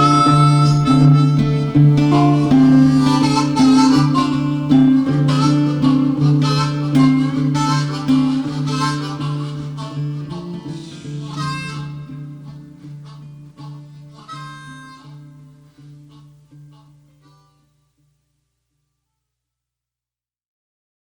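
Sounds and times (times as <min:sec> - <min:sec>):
strummed acoustic guitar: 0:00.0 - 0:16.9
harmonica: 0:00.0 - 0:17.9.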